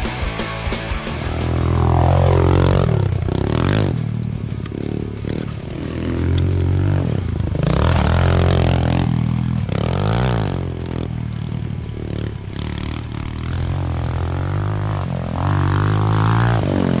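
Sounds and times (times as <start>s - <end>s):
background music: 0.0s - 11.2s, 12.5s - 17.0s
motorbike engine revving: 0.0s - 17.0s.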